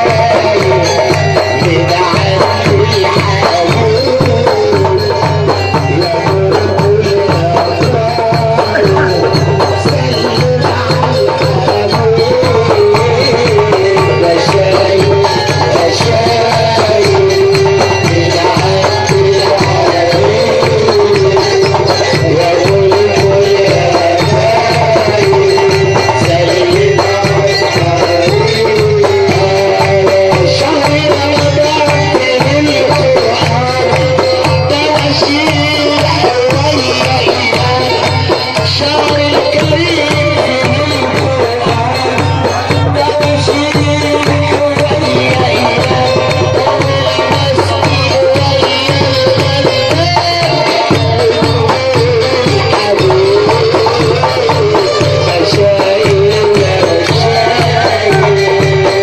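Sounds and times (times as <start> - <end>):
steady drum beat: 0.0 - 59.0.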